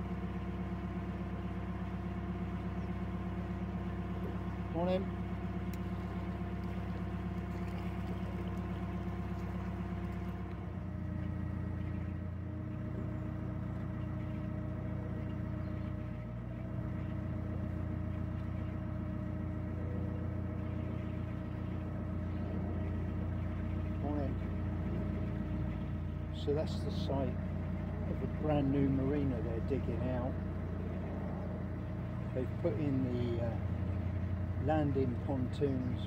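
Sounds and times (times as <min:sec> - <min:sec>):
boat diesel engine running: 0:00.0 - 0:36.0.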